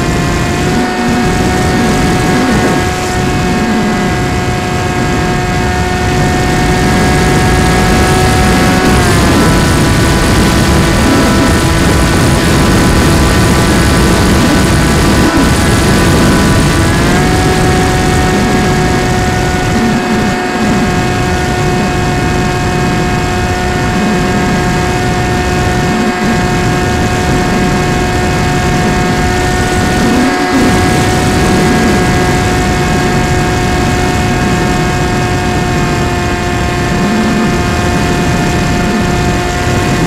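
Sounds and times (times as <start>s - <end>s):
model airplane motor and propeller: 0.0s - 40.0s
wind rushing over microphone: 0.0s - 40.0s.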